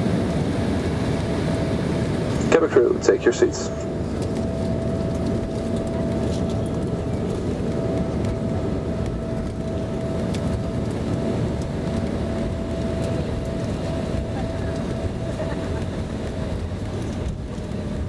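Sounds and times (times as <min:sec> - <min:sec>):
jet engines running low power: 0:00.0 - 0:18.0.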